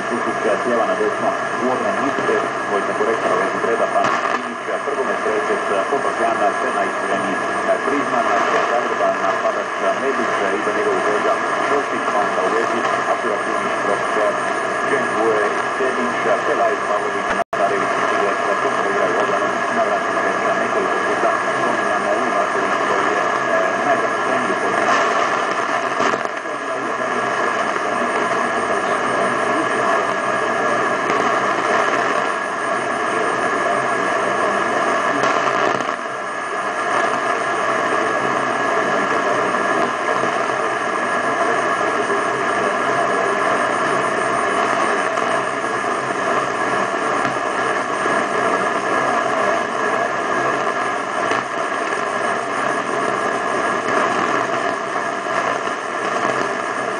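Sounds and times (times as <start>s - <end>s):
radio static: 0.0s - 56.9s.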